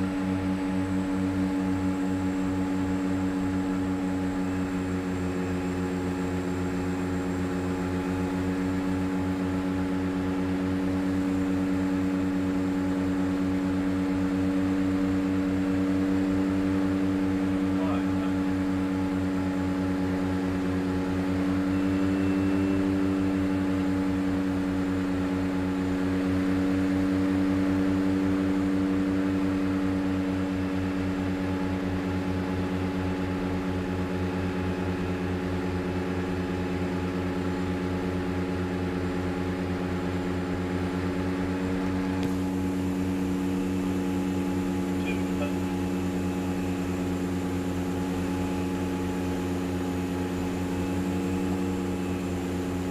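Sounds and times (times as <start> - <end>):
turboprop engines droning: 0.0 - 52.9.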